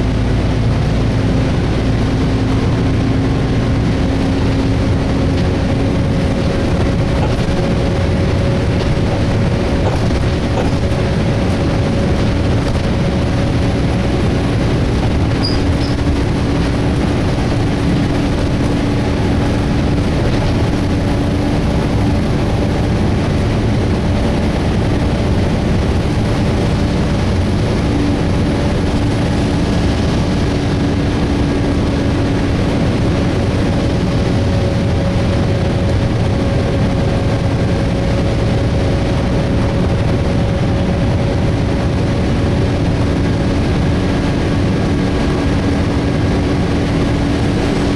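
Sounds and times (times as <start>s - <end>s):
bus engine fan humming: 0.0s - 47.9s.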